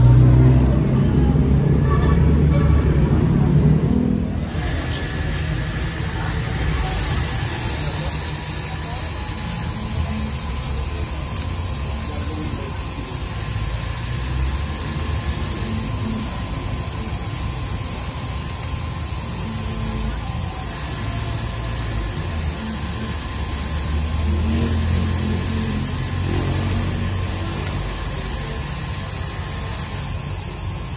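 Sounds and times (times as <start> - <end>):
engraving machine motor humming: 4.4 - 30.9
cutter hissing on plastic: 6.0 - 30.9.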